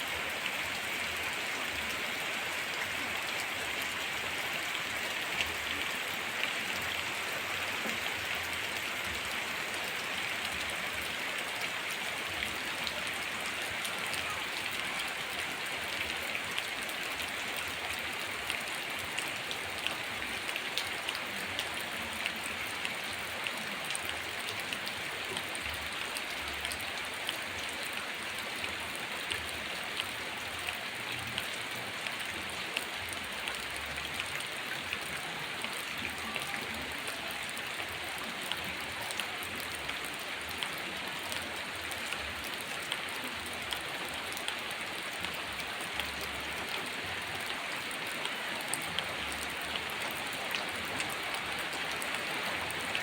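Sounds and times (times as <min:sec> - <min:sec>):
heavy rain: 0:00.0 - 0:53.0
raindrops ticking on surface: 0:00.1 - 0:53.0.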